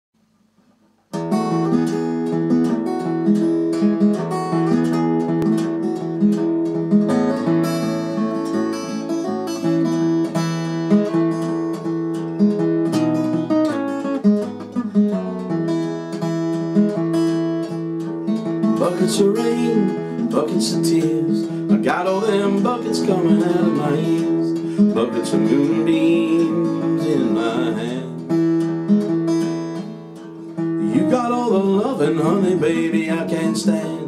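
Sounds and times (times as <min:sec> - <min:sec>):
acoustic guitar picking: 0:00.6 - 0:34.0.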